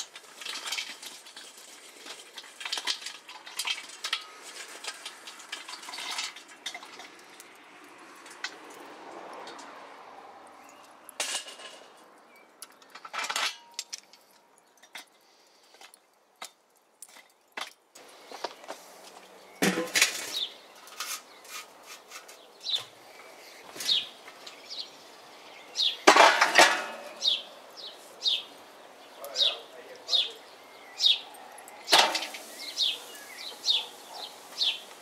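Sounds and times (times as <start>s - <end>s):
metal grill grate and lid clattering: 0.0s - 9.8s, 10.6s - 18.4s, 19.5s - 24.9s, 25.8s - 35.0s.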